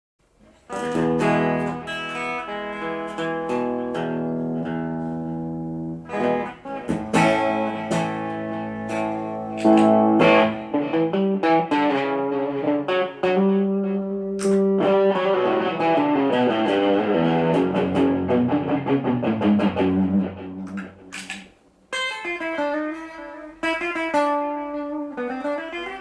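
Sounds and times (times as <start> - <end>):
guitar playing: 0.4 - 26.0.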